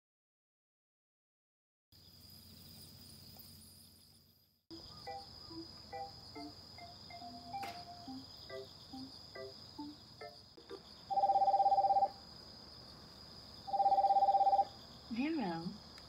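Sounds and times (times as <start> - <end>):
crickets trilling: 2.0 - 16.0.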